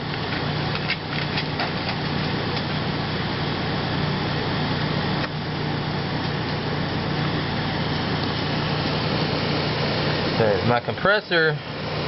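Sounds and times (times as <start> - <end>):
fridge fan motor humming: 0.0 - 12.0.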